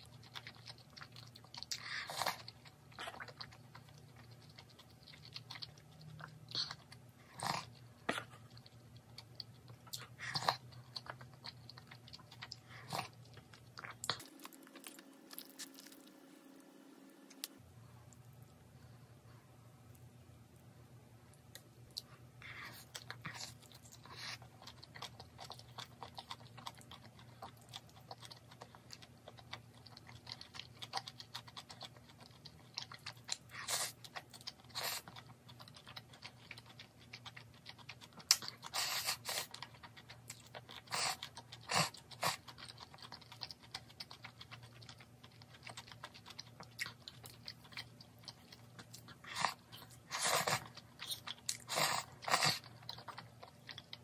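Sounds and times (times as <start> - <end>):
person chewing and crunching food: 0.0 - 19.0, 21.3 - 54.0.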